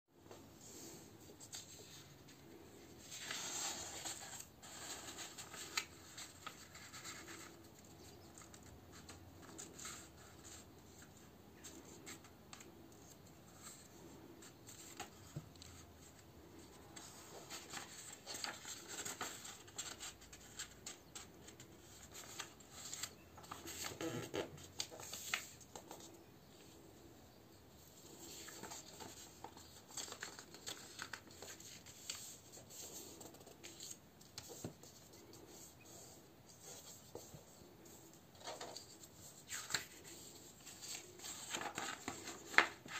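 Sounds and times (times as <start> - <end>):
paper rustling being folded: 0.8 - 26.8, 27.7 - 42.9.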